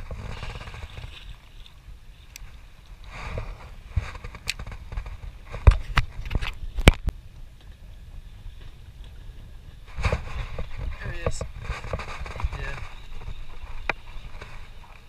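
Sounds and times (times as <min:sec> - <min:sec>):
choppy water: 0:00.0 - 0:15.0
wind on microphone: 0:00.0 - 0:15.0.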